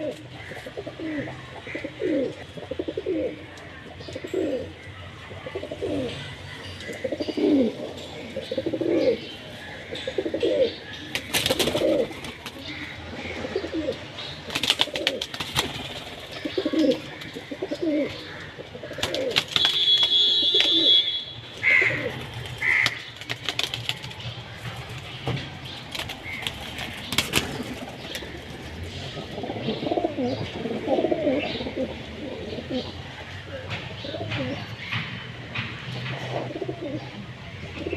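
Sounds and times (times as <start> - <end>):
pigeons cooing: 0.0 - 35.1, 36.1 - 37.9.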